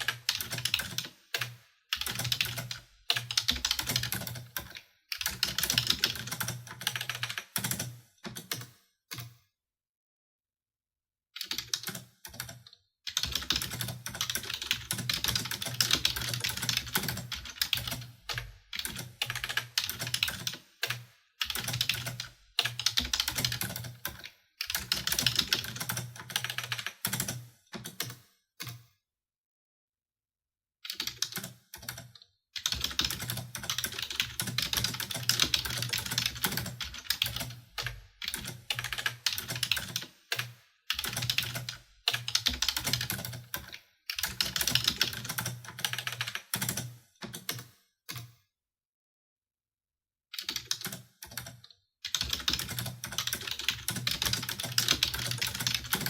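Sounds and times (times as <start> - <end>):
fast typing on a keyboard: 0.0 - 9.3, 11.4 - 28.8, 30.9 - 47.7, 50.4 - 56.0.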